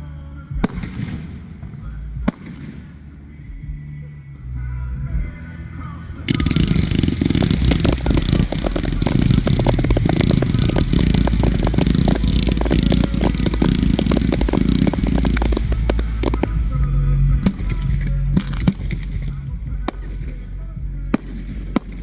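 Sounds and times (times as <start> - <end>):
fireworks bangs and crackling: 0.5 - 3.8, 6.3 - 22.0
heavy rumble: 0.5 - 3.8, 6.1 - 22.0.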